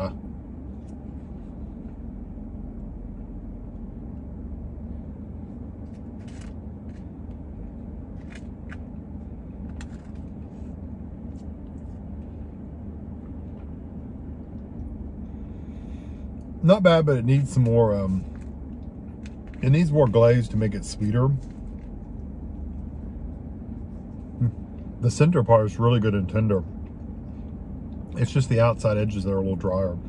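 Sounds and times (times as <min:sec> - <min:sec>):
car engine idling hum: 0:00.0 - 0:30.0.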